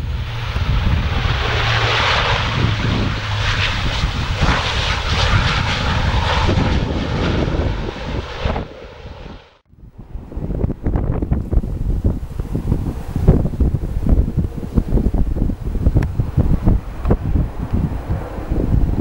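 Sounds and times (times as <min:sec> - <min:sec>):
turboprop engines running: 0:00.0 - 0:19.0.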